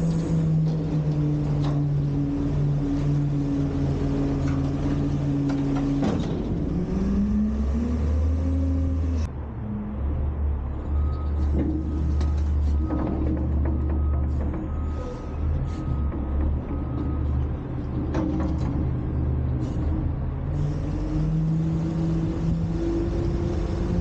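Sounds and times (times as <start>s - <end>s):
garbage truck diesel engine: 0.0s - 24.0s.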